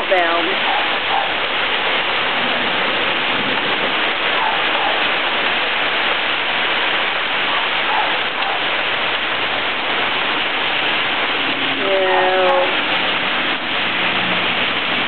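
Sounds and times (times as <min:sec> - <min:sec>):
steady rain hissing: 0:00.0 - 0:15.0.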